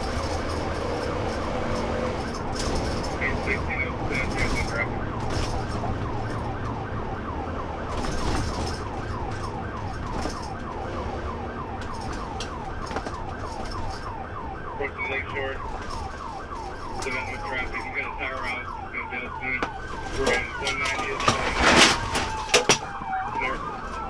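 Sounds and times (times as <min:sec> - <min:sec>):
police siren yelping: 0:00.0 - 0:24.0
road and engine noise: 0:00.0 - 0:24.0
siren wailing: 0:00.0 - 0:24.0.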